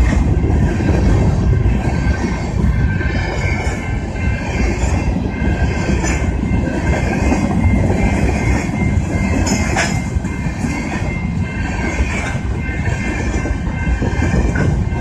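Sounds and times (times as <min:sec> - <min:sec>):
steel wheels rumbling on rail: 0:00.0 - 0:15.0.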